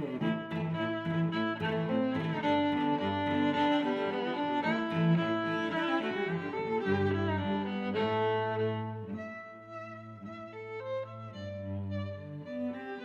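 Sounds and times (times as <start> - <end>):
bowed strings music: 0.0 - 13.0.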